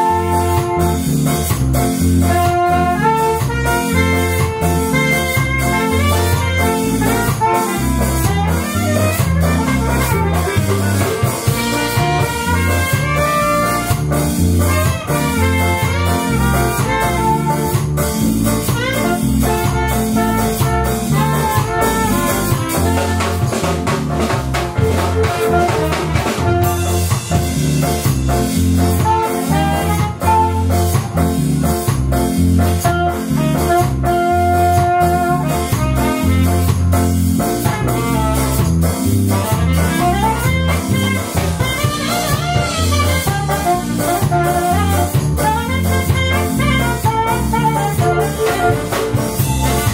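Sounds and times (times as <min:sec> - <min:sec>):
bass: 0:00.0 - 0:49.9
drum kit steady beat: 0:00.0 - 0:49.9
saxophone and trumpet melody: 0:00.0 - 0:49.9.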